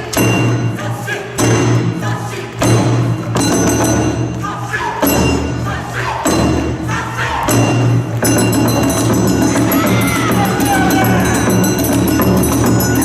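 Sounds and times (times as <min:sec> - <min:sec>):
group singing: 0:00.0 - 0:13.0.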